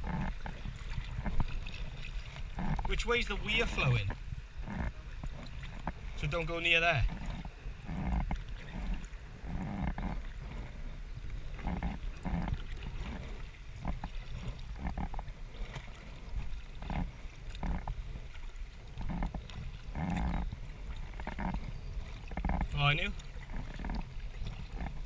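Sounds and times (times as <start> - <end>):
paddle splashes and knocks: 0.0 - 25.0.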